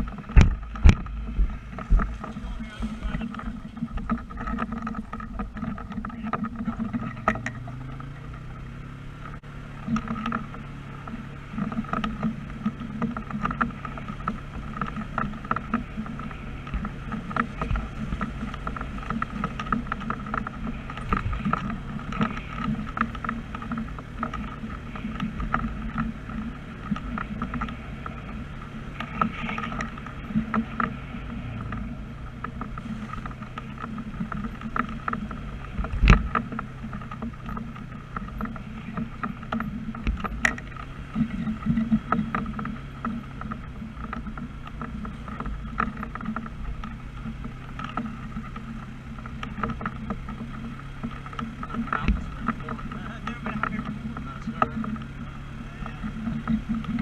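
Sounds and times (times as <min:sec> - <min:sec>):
fire truck engine running: 0:00.0 - 0:57.0
short rattles and knocks: 0:00.0 - 0:57.0.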